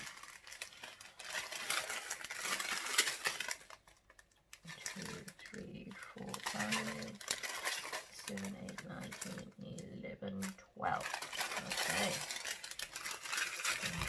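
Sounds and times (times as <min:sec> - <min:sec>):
plastic packets crinkling: 0:00.0 - 0:14.0.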